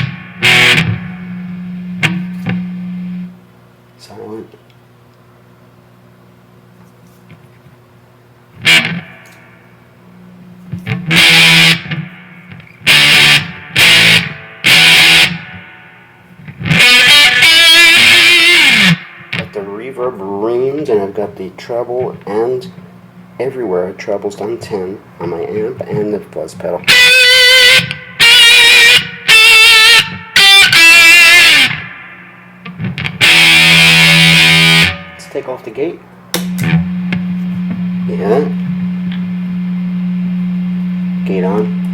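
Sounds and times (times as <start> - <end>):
distorted electric guitar chords: 0.0 - 3.8, 7.3 - 41.9
faint amp hum: 0.0 - 41.9.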